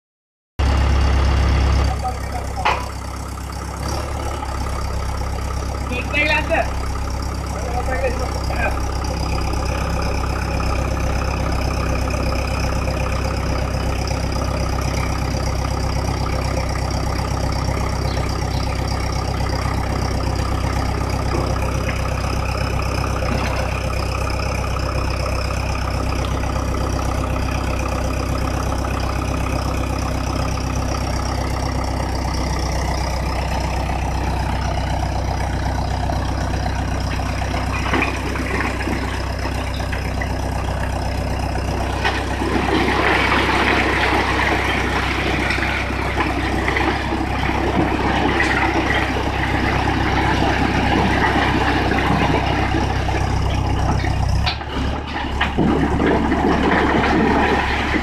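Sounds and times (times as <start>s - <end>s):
tractor diesel engine running: 0.6s - 58.0s
clatter: 1.8s - 5.6s, 8.8s - 58.0s.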